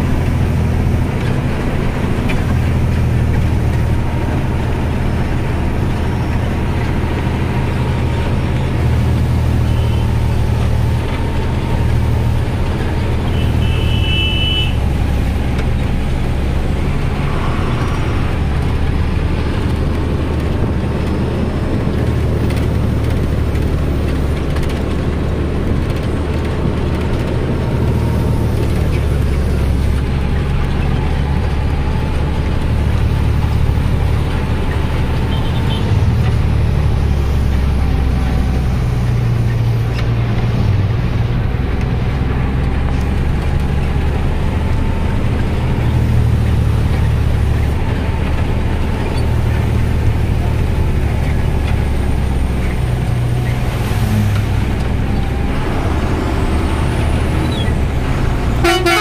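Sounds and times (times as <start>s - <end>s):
road noise: 0.0s - 59.0s
truck engine droning: 0.0s - 59.0s.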